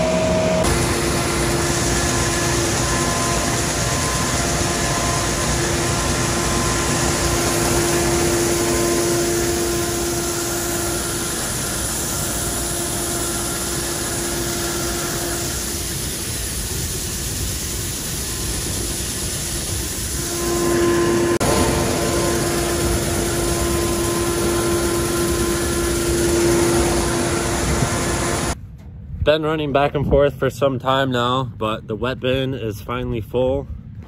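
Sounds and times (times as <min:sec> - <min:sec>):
diesel engine running: 0:00.0 - 0:28.6
steady whine: 0:00.0 - 0:30.7.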